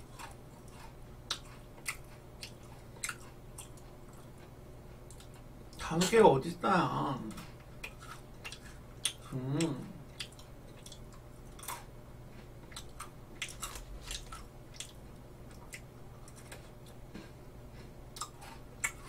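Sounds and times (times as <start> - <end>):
crunching biscuit sticks: 0.0 - 6.2, 7.7 - 19.0.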